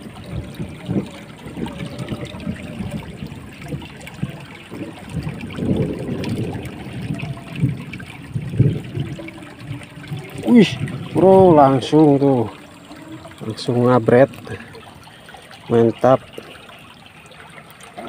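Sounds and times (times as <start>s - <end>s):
water running and trickling: 0.0s - 18.0s.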